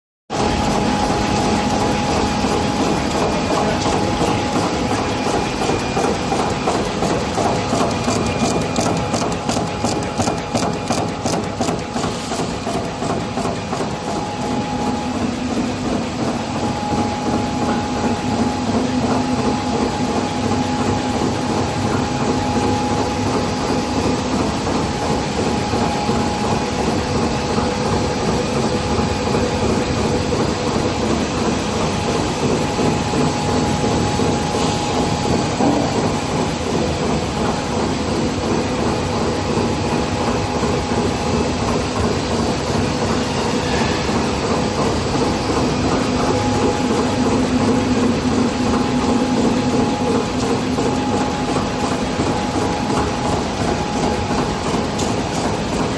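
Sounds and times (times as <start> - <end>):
constant machine whine: 0.3 - 55.9
printing press clatter: 0.3 - 55.9.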